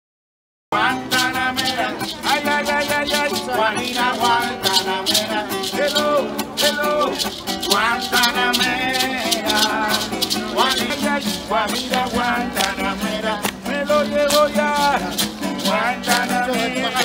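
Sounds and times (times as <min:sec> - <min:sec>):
acoustic guitar strummed: 0:00.7 - 0:17.0
men singing: 0:00.7 - 0:17.0
maracas shaking: 0:00.8 - 0:17.0.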